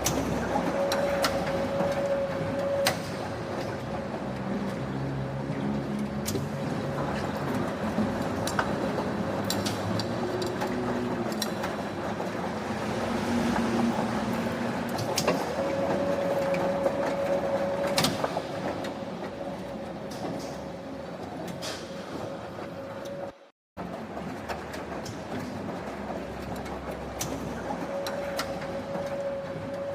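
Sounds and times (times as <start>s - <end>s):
factory machinery hum: 0.0s - 29.9s.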